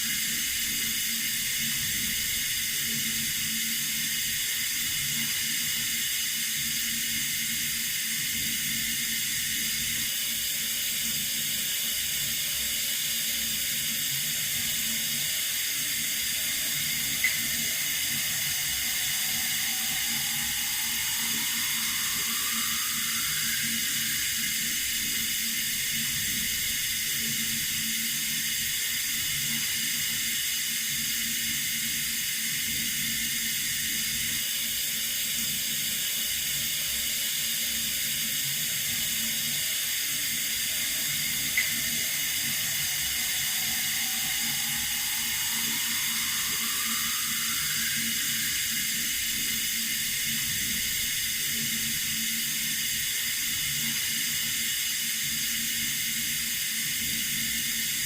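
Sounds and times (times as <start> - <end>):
water running from a tap: 0.0 - 34.2, 37.3 - 58.0.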